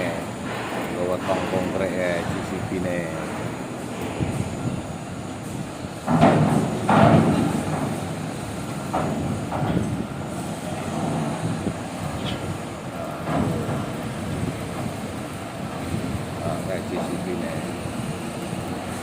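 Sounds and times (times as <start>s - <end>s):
lifting machinery clattering: 0.0s - 19.0s.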